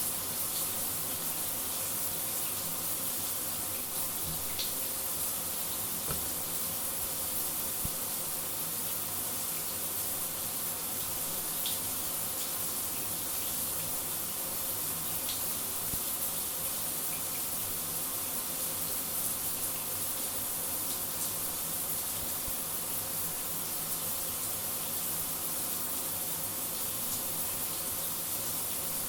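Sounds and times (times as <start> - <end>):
shower spraying water: 0.0 - 29.0.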